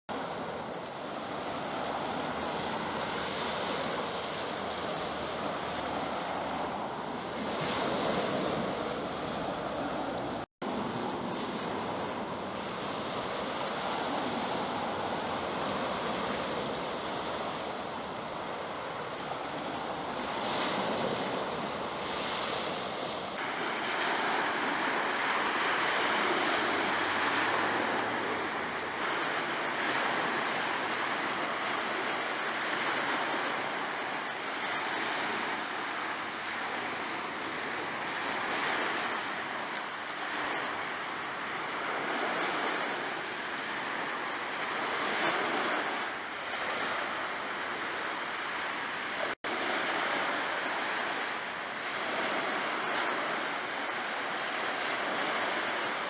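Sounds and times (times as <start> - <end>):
sea waves washing: 0.1 - 56.0.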